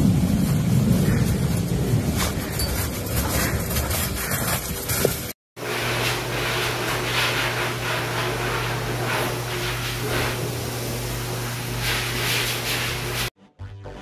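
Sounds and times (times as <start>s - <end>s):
water spraying in metal tub: 0.0s - 13.3s.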